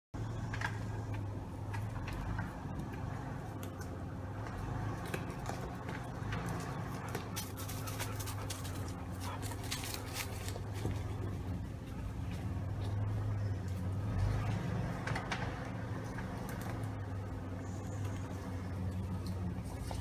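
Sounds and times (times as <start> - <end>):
engines running low hum: 0.1 - 20.0.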